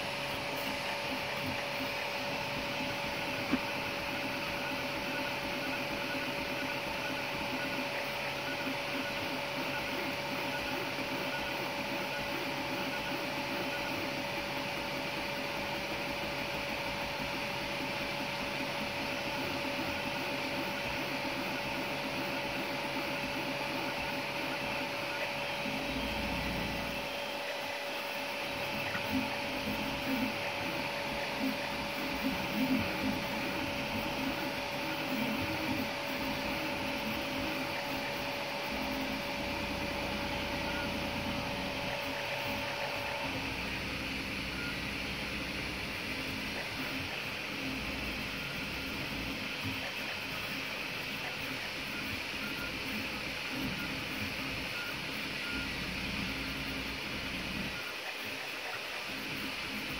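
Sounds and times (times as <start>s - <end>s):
cooling fans whirring: 0.0s - 59.9s.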